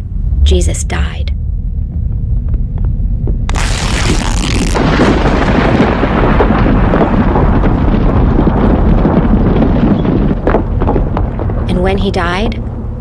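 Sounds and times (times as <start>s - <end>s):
thunder crack and rolling rumble: 0.0s - 13.0s.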